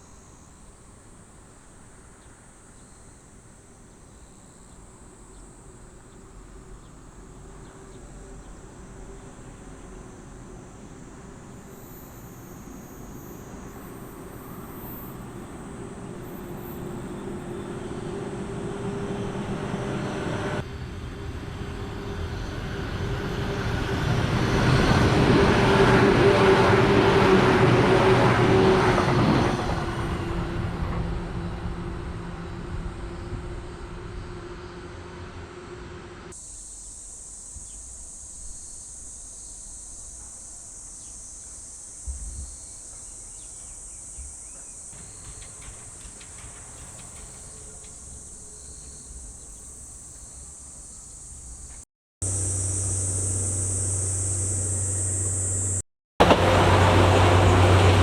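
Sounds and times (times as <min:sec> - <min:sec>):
high insect drone: 0:00.0 - 0:28.7, 0:36.3 - 0:55.8
electric train passing: 0:00.2 - 0:37.4, 0:44.8 - 0:58.0.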